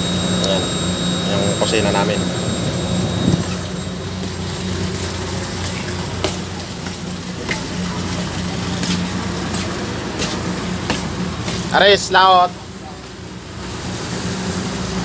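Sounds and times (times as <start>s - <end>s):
machinery hum with hiss: 0.0s - 15.0s.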